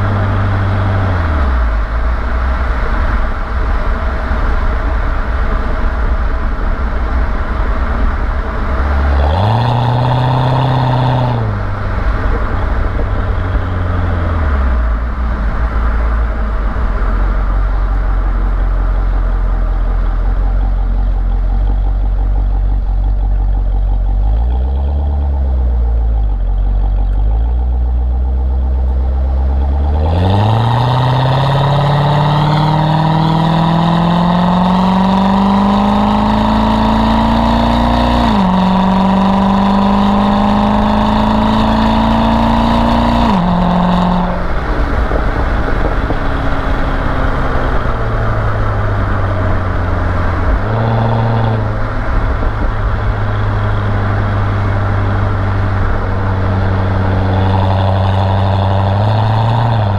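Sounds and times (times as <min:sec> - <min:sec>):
car accelerating hard: 0:00.0 - 0:59.9
car engine idling and revving: 0:00.0 - 0:59.9.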